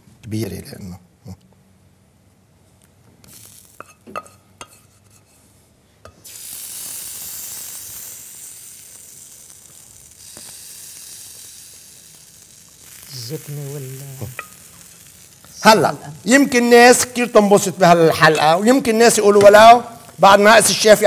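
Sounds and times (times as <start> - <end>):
food sizzling in frying pan: 3.2 - 5.3, 6.1 - 21.0.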